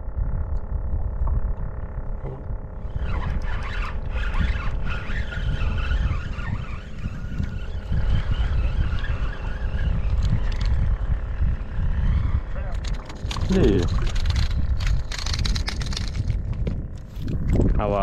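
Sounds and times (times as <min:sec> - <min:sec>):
steady hum: 0:00.0 - 0:18.0
thin wavering high whine: 0:00.0 - 0:18.0
wind buffeting microphone: 0:00.0 - 0:18.0.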